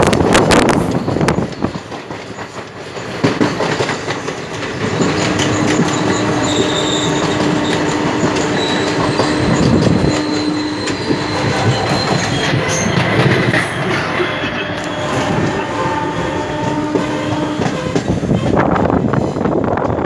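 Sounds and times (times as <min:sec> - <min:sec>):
train wheels rumbling over rail joints: 0:00.0 - 0:20.0.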